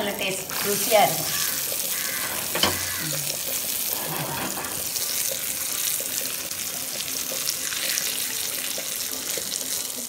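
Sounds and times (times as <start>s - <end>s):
nuts sizzling in hot fat: 0.0s - 10.0s.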